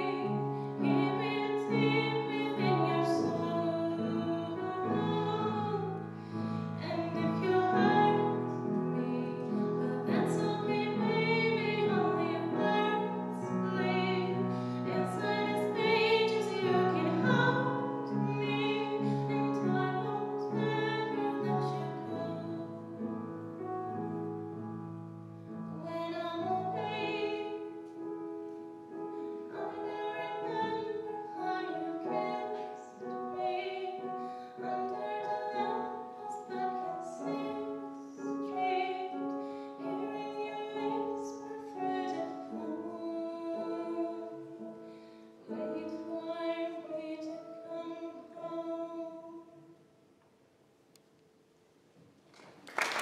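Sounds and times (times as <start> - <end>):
young woman singing: 0.0 - 23.2, 25.7 - 28.1, 29.4 - 44.8, 45.4 - 49.6
piano accompaniment: 0.0 - 49.6.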